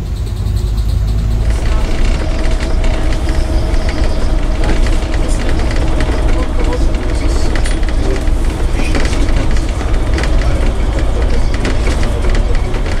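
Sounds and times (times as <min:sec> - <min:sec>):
bus engine rumble: 0:00.0 - 0:13.0
knocks and rattles: 0:00.0 - 0:13.0.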